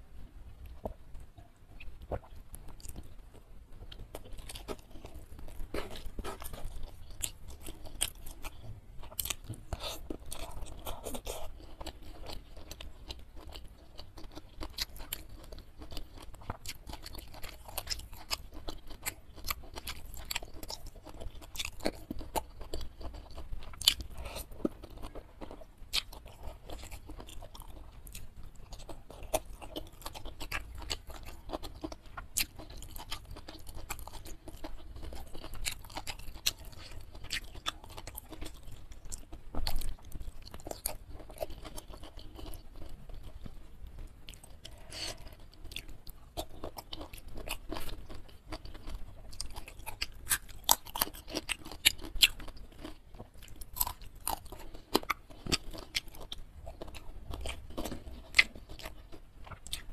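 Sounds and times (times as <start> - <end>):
chewing and crunching food: 0.2 - 59.9.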